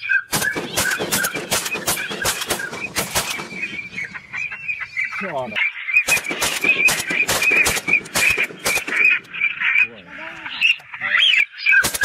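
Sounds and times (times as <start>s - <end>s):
warbling chatter: 0.0s - 12.0s
waterfowl honking: 0.0s - 12.0s.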